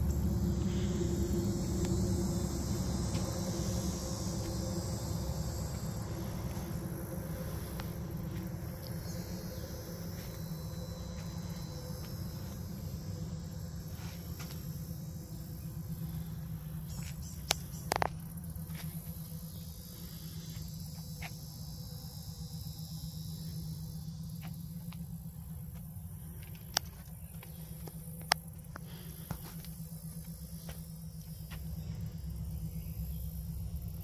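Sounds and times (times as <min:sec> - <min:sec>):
low rumble: 0:00.0 - 0:20.8, 0:25.0 - 0:34.0
insects chirring: 0:00.0 - 0:34.0.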